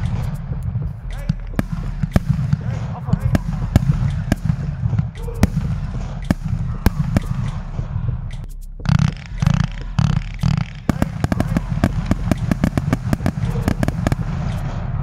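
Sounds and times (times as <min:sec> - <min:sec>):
heavy firework bangs: 0:00.0 - 0:15.0
rapid crackling firework reports: 0:00.0 - 0:15.0.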